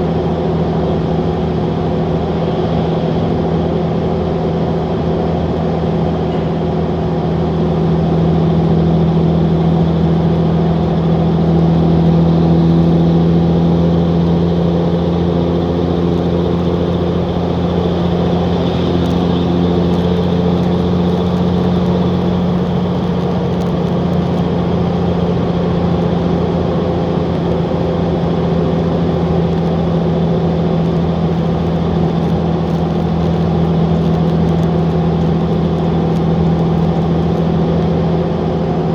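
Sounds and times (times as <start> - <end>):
diesel engine running loud: 0.0 - 38.9.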